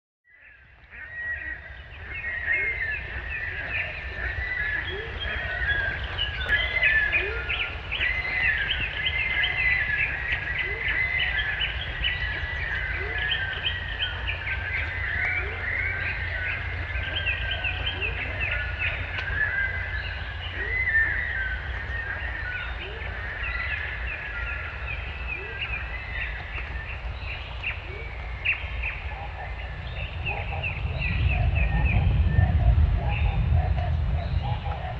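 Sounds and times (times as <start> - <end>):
birds chirping and twittering: 0.3 - 34.9
steady low rumble: 0.5 - 34.9.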